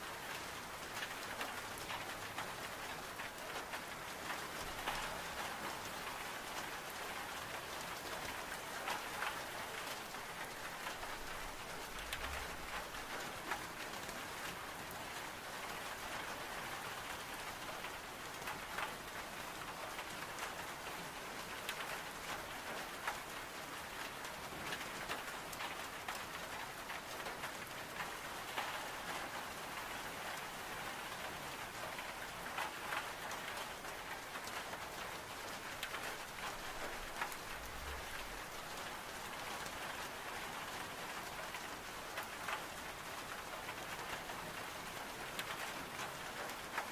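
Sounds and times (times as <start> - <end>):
rain on window glass: 0.0 - 46.9.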